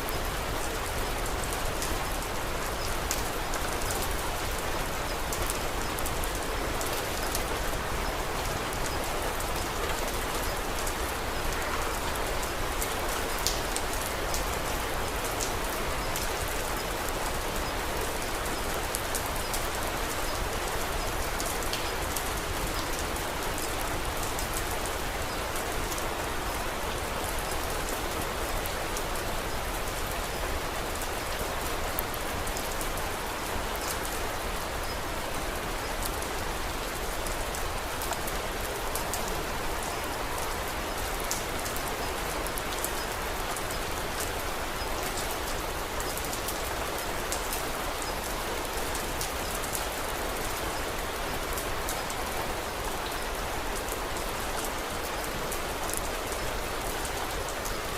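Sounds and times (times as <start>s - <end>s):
rain pattering on surfaces: 0.0s - 57.9s.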